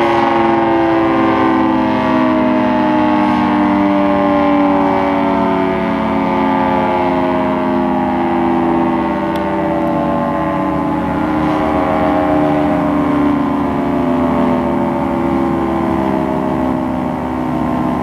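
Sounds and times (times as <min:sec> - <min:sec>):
mechanical warning siren: 0:00.0 - 0:18.0.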